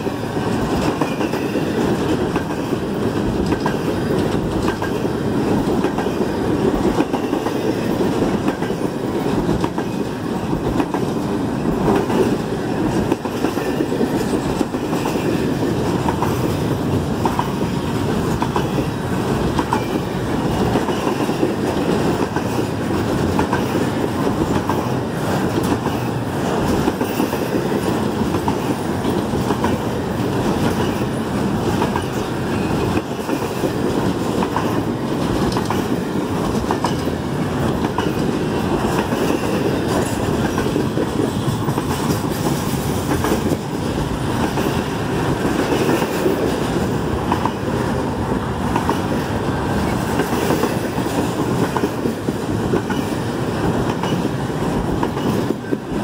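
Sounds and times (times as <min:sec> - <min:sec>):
train wheels rumbling on rail: 0:00.0 - 0:56.0
wheels clacking over rail joints: 0:00.0 - 0:56.0.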